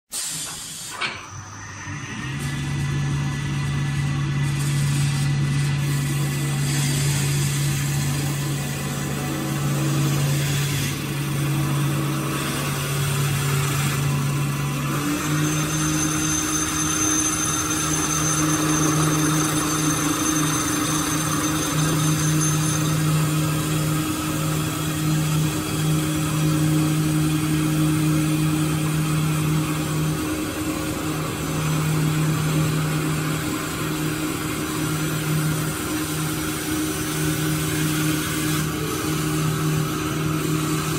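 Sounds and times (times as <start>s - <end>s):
cutter hissing through wood: 0.1s - 40.9s
wood lathe motor hum: 1.9s - 40.9s.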